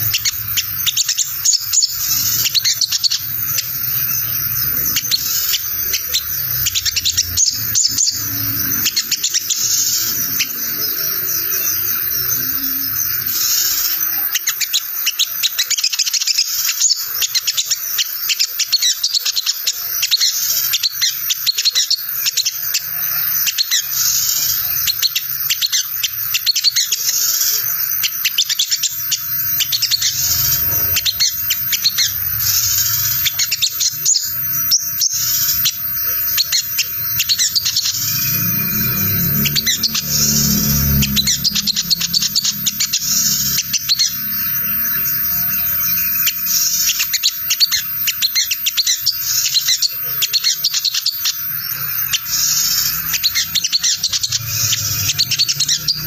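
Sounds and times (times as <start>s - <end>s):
bird twittering chirps and trills: 0.0s - 56.0s.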